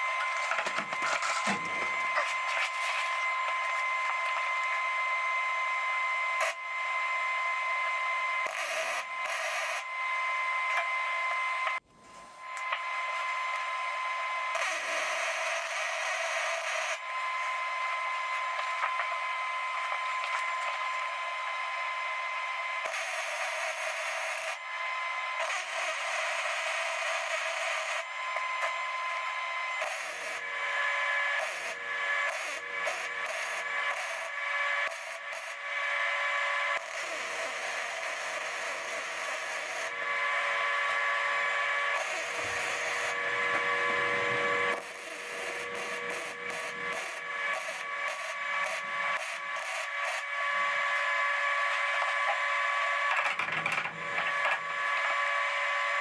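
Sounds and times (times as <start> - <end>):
sheet metal being cut: 0.0 - 6.7, 7.8 - 56.0
power tool high whine: 0.0 - 56.0.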